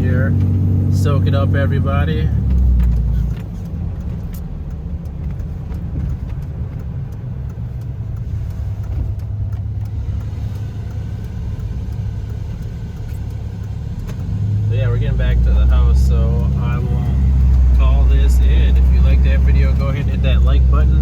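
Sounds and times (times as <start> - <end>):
diesel truck engine drone: 0.0 - 21.0
road noise: 0.0 - 21.0.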